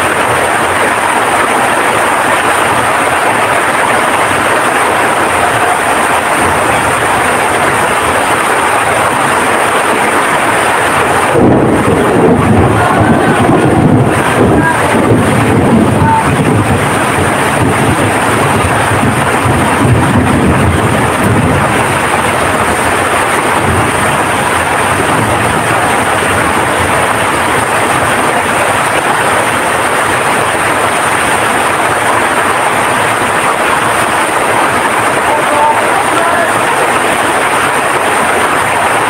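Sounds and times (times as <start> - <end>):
heavy rain pouring: 0.0 - 39.0
strong wind gusts rumbling: 0.0 - 39.0.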